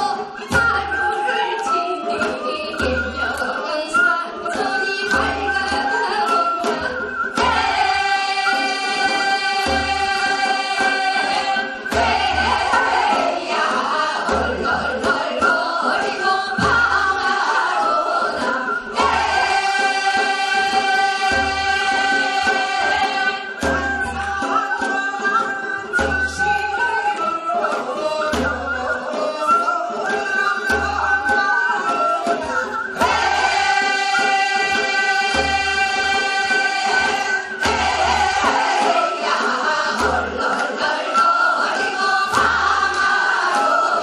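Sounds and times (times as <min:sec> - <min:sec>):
women's chorus singing folk song: 0:00.0 - 0:44.0.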